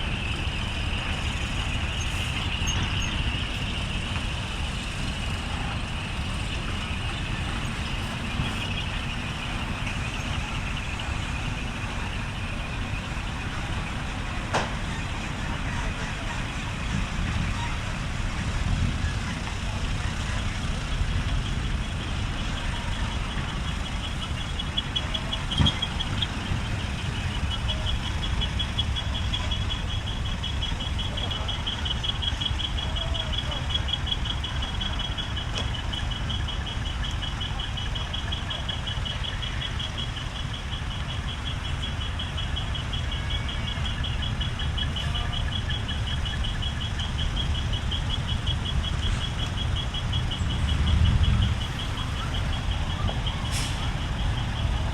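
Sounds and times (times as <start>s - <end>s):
truck engines idling: 0.0s - 54.9s.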